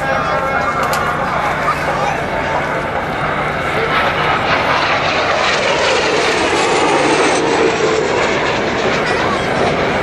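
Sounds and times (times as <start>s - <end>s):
jet aircraft passing overhead: 0.0s - 10.0s.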